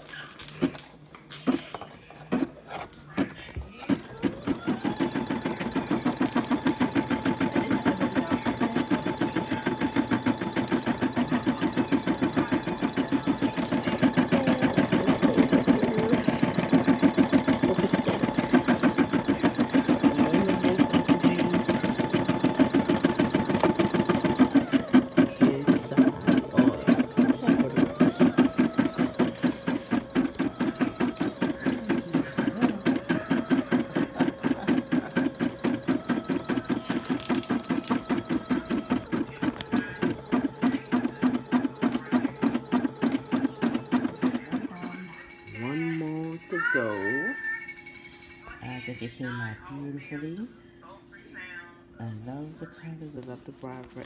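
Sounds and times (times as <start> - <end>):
embroidery machine stitching: 1.4 - 47.1
machine whine: 4.2 - 49.0.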